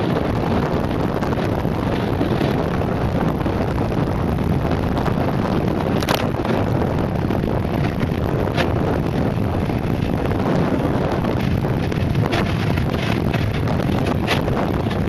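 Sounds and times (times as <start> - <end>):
tyres rolling on asphalt: 0.0 - 4.0, 4.6 - 15.0
wind noise on microphone: 0.0 - 15.0.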